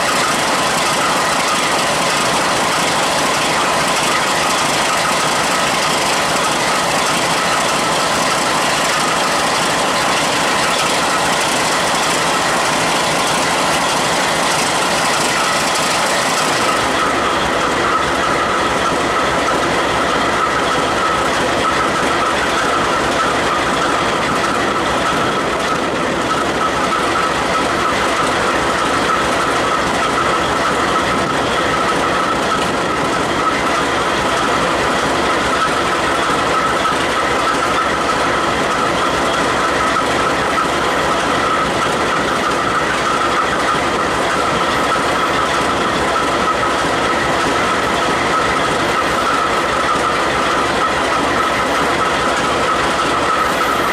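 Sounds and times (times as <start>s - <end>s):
high wheel squeal: 0.0s - 53.9s
train wheels rumbling on rail: 0.0s - 53.9s.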